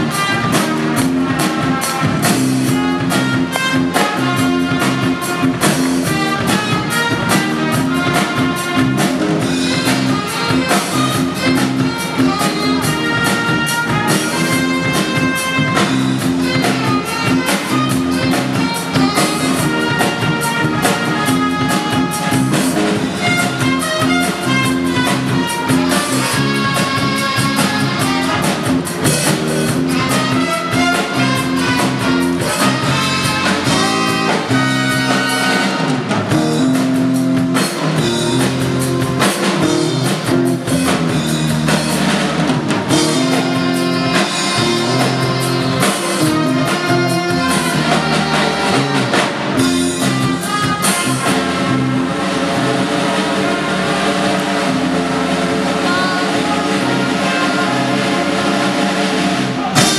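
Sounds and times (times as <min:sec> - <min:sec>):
instrumental music with steady beat: 0:00.0 - 0:52.9.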